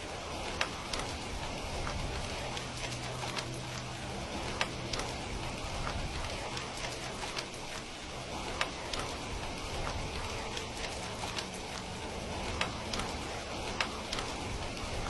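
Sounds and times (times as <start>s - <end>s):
steady rain patter: 0.0s - 15.0s.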